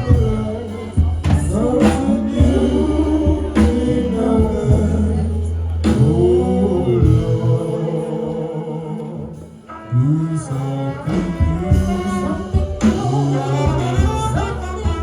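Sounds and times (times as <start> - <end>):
gospel singing: 0.0 - 15.0
instrumental accompaniment with bass: 0.0 - 15.0.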